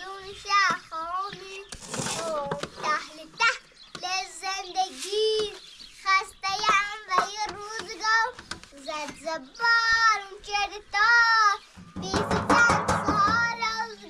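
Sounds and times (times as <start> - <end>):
young child singing: 0.0 - 14.0.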